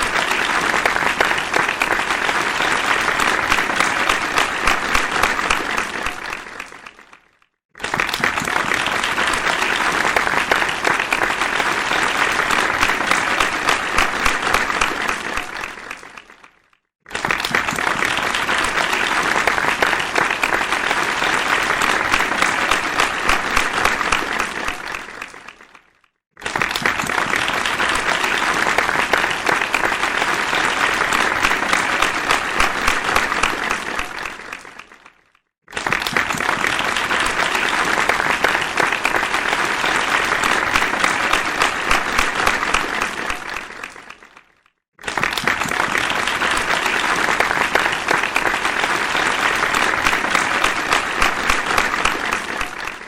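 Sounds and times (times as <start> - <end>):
audience applause: 0.0 - 53.0.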